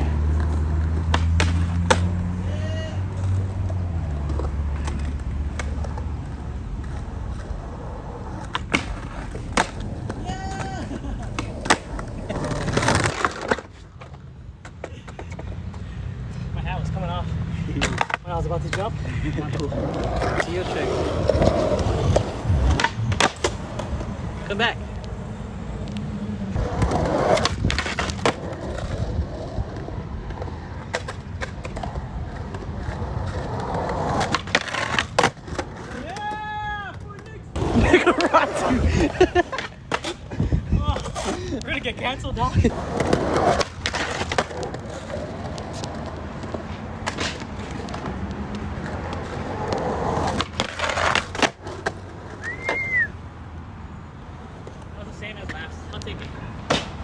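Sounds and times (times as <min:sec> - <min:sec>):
skateboard clacking on ground: 0:00.0 - 0:02.2, 0:03.1 - 0:15.9, 0:17.8 - 0:53.0, 0:54.3 - 0:57.0
skateboard wheels rolling on concrete: 0:00.0 - 0:57.0.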